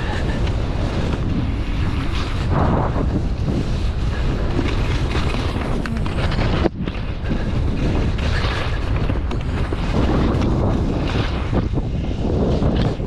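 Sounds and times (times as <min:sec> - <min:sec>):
skis sliding over snow: 0:00.0 - 0:13.0
wind buffeting microphone: 0:00.0 - 0:13.0.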